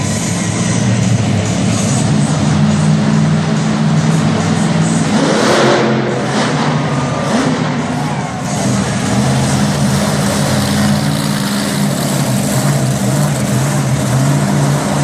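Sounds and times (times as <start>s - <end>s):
truck engine running loudly: 0.0s - 15.0s.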